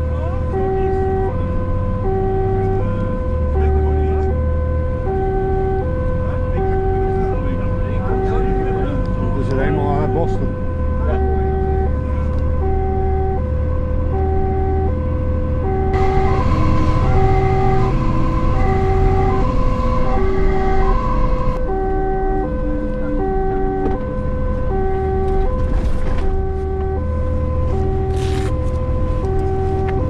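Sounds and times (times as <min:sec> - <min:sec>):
truck engine and road noise: 0:00.0 - 0:30.0
two-tone fire engine siren: 0:00.0 - 0:30.0.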